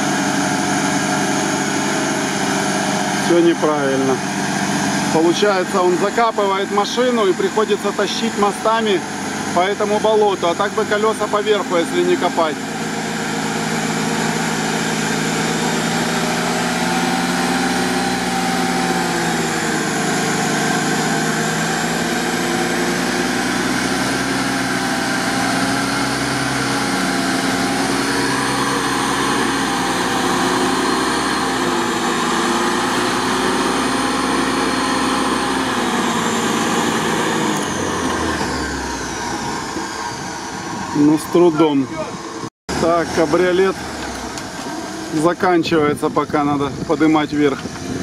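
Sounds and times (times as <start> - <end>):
off-road vehicle engine revving: 0.0 - 48.0
wheels churning through mud: 0.0 - 48.0.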